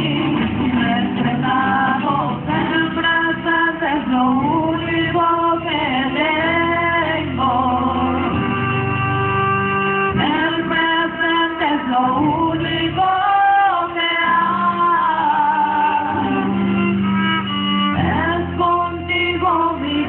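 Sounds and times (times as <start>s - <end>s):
group singing with guitars: 0.0s - 20.0s.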